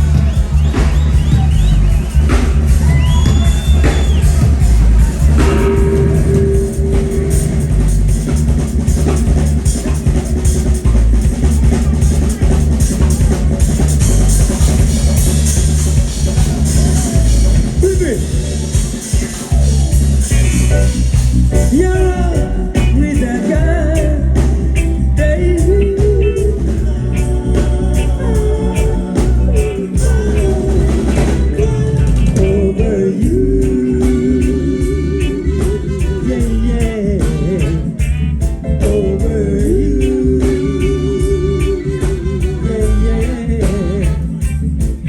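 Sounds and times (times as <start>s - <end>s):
live reggae band playing: 0.0s - 45.0s.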